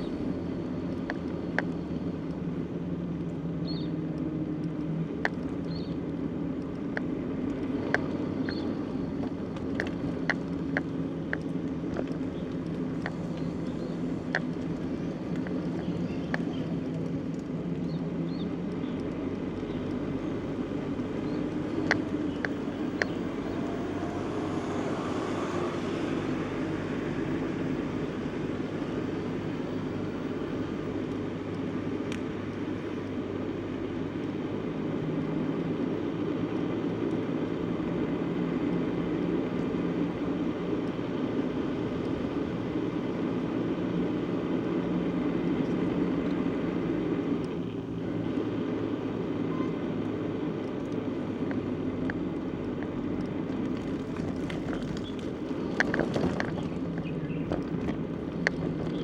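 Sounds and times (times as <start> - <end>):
bicycle tyre and wind rumble: 0.0 - 59.0.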